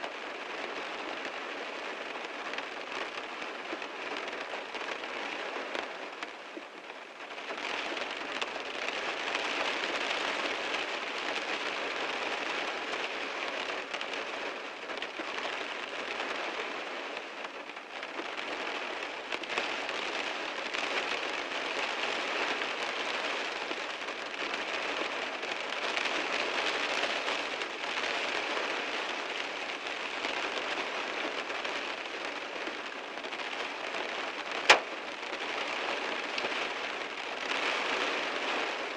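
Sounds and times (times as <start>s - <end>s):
heavy rain drumming on a car: 0.0s - 38.9s.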